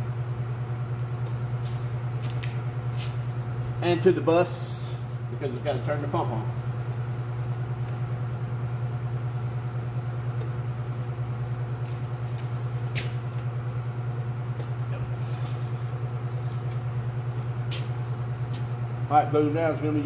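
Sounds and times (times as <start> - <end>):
low pulsing machine drone: 0.0 - 20.0.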